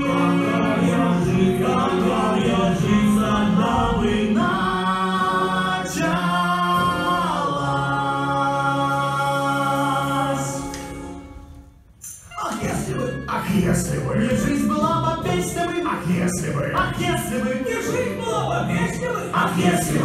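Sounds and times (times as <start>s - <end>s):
voices singing without instruments: 0.0s - 11.4s, 12.4s - 20.0s.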